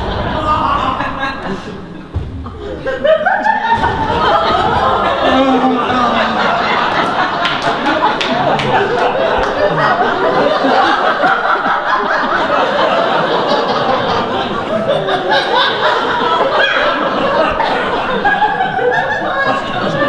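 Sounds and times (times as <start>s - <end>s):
audience laughing: 0.0s - 20.0s.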